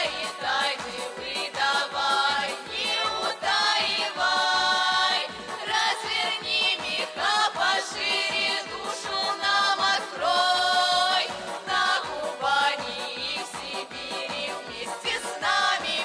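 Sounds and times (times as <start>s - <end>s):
backing track with steady beat: 0.0s - 16.0s
vocal group singing: 0.0s - 16.0s.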